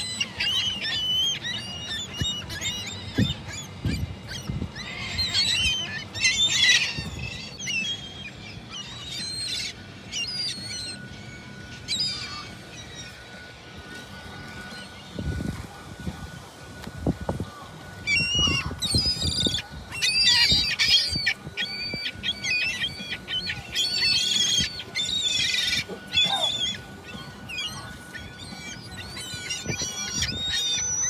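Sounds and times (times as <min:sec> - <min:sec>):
gulls calling: 0:00.0 - 0:31.0.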